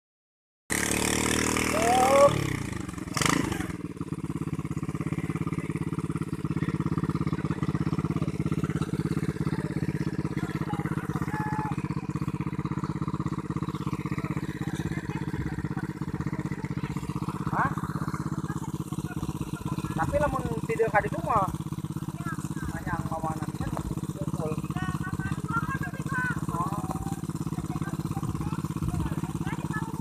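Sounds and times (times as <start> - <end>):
small engine chugging: 0.7 - 30.0.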